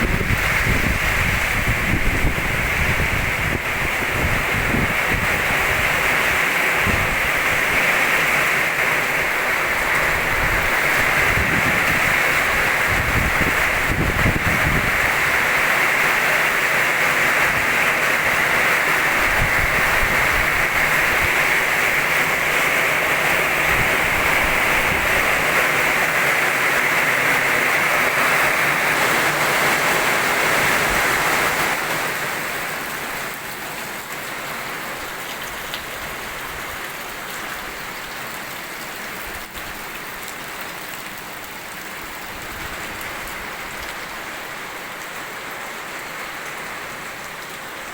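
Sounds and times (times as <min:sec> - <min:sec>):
heavy rain in wind: 0:00.0 - 0:47.9.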